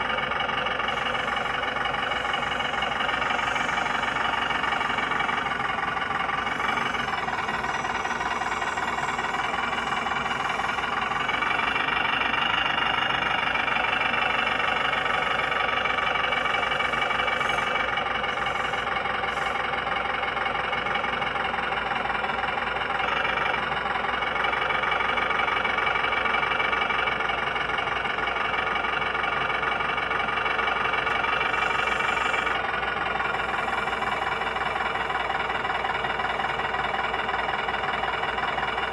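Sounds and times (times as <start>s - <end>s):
toy truck motor humming: 0.0s - 38.9s.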